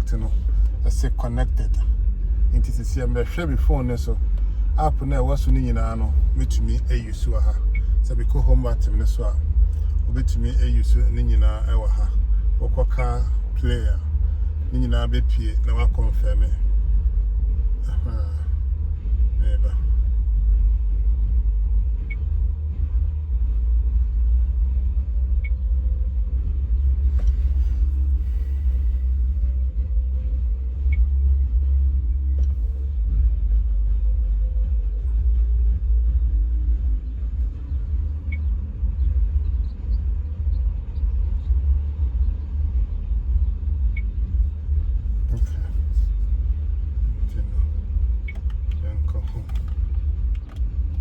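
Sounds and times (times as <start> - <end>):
car engine rumble inside cabin: 0.0 - 51.0.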